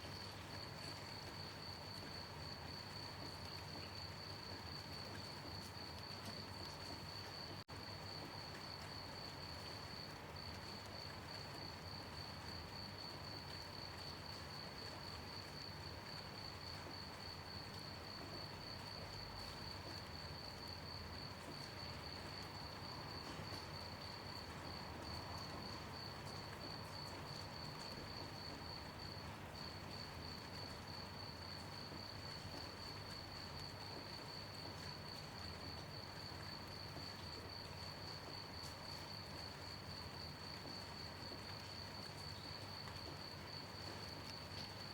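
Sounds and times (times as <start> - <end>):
gentle rain hiss: 0.0 - 44.9
crickets chirping: 0.1 - 44.9.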